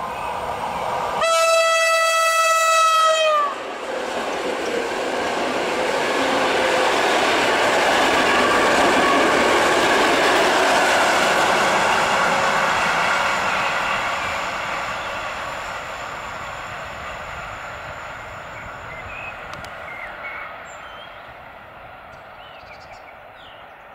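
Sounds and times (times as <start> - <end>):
train passing at speed: 0.0 - 23.9
wheels rushing on rail: 0.0 - 23.9.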